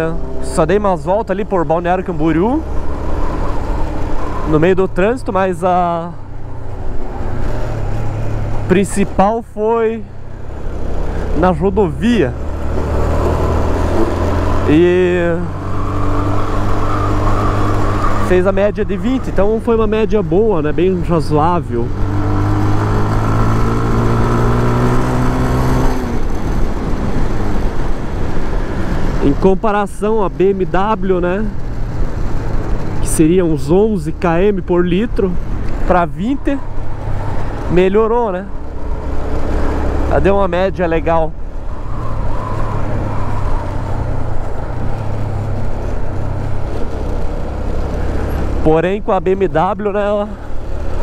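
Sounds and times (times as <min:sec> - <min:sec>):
motorcycle engine cruising: 0:00.0 - 0:51.0
wind and road noise: 0:00.0 - 0:51.0.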